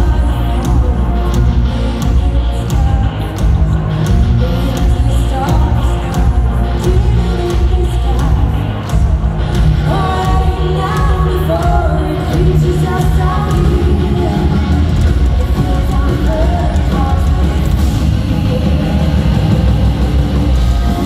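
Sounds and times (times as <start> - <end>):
woman singing lead vocal: 0.0 - 20.1
metal band playing live: 0.0 - 21.0.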